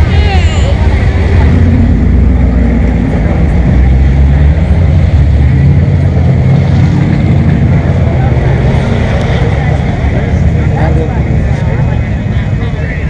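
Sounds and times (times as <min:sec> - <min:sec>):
car exhaust running loud: 0:00.0 - 0:13.0.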